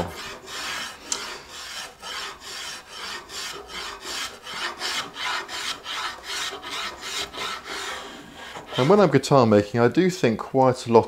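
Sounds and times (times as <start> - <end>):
spokeshave shaving wood: 0.0 - 9.4.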